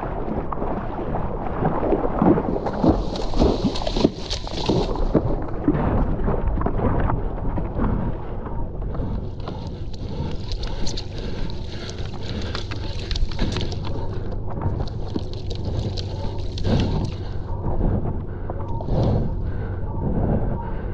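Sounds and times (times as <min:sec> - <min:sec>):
water splashing and rushing: 0:00.0 - 0:18.2
wind rumbling on microphone: 0:00.0 - 0:20.9.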